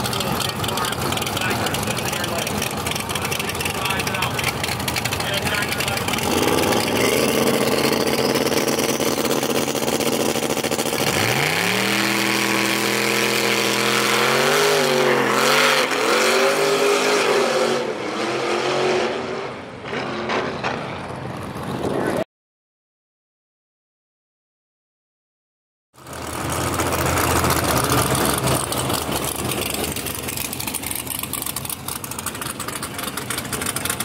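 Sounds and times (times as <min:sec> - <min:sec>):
drag racing cars accelerating: 0:00.0 - 0:22.2, 0:26.0 - 0:34.0.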